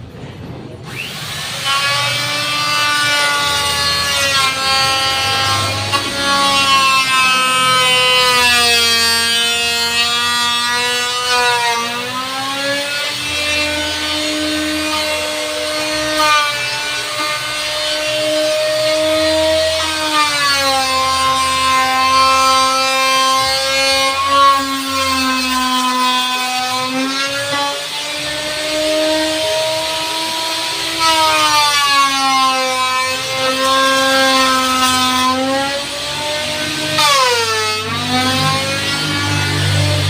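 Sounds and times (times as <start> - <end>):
power tool cutting wood: 0.1 - 40.0.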